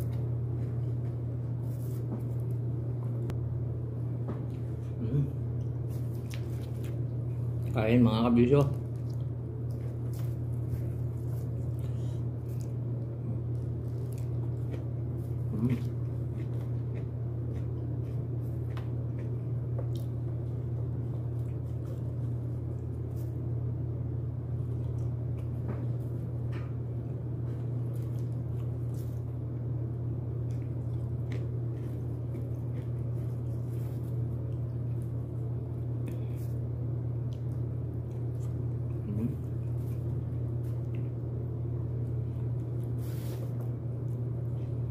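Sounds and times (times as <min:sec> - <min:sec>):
steady low hum: 0:00.0 - 0:44.9
chewing and biting food: 0:04.5 - 0:07.8, 0:08.6 - 0:23.7, 0:24.4 - 0:44.9.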